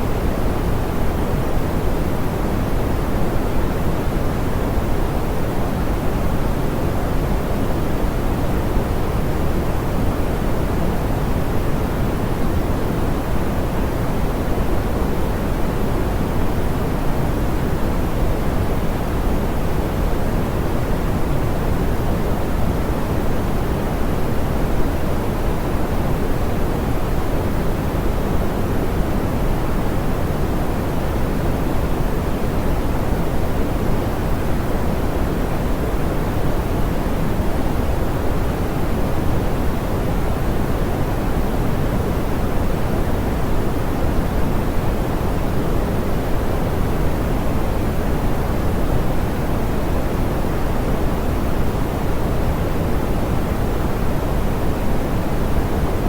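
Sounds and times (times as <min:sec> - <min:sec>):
soft pink noise hiss: 0:00.0 - 0:56.0.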